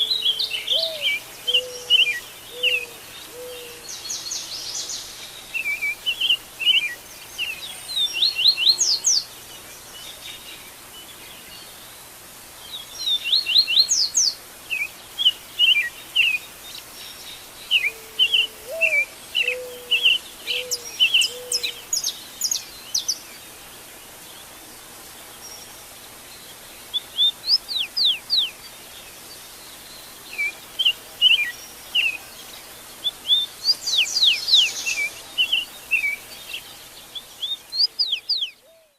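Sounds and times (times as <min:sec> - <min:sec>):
birds chirping in dawn chorus: 0:00.0 - 0:38.9.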